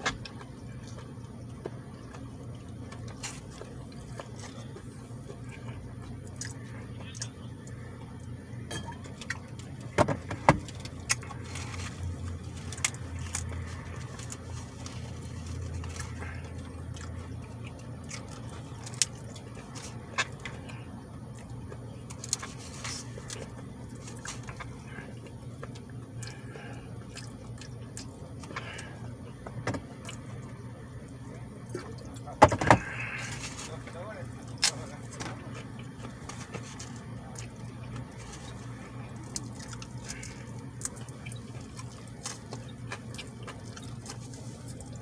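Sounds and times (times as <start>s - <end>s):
low car cabin hum: 0.0s - 45.0s
man chewing with full mouth: 0.0s - 45.0s.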